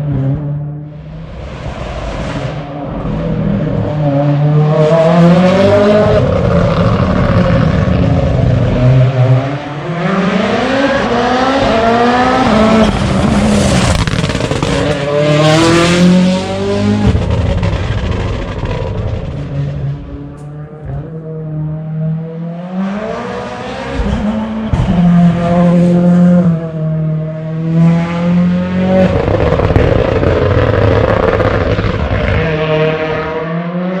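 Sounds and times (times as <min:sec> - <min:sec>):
rally car engine accelerating: 0:00.0 - 0:34.0.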